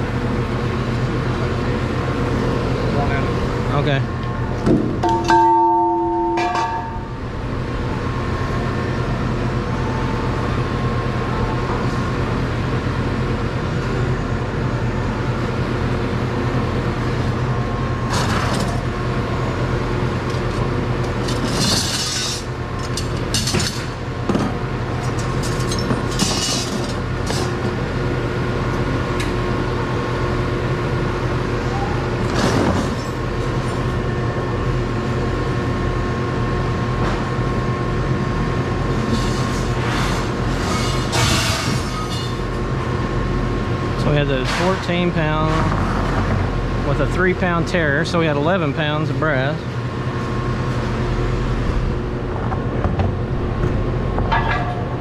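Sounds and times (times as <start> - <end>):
low machinery drone: 0.0 - 55.0.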